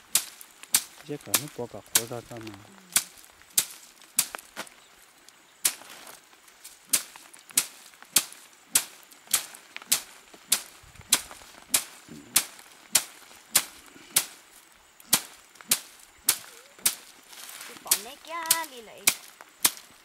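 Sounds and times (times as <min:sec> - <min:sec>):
stick whacking dried stalks: 0:00.0 - 0:20.0.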